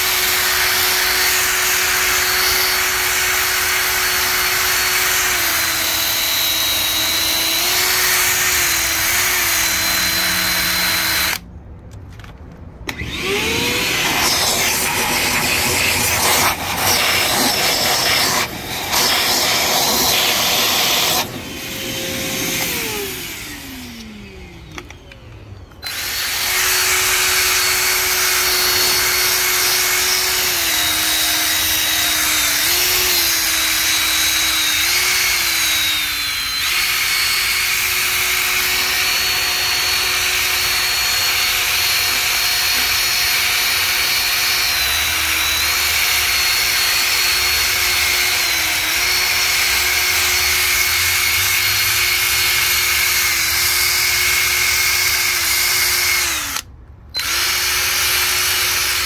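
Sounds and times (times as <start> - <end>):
power tool whining: 0.0 - 11.5, 12.3 - 59.0.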